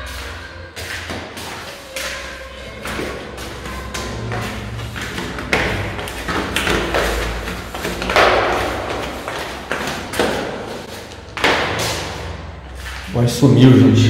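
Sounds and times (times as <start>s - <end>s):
footsteps on concrete stairs: 0.0s - 13.1s.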